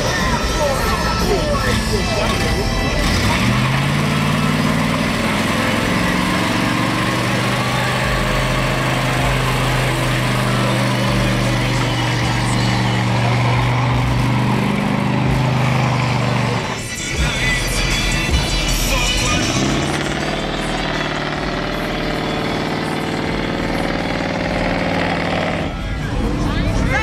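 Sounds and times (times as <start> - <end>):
spinning tyres rushing: 0.0 - 27.0
car engine at high revs: 1.1 - 27.0.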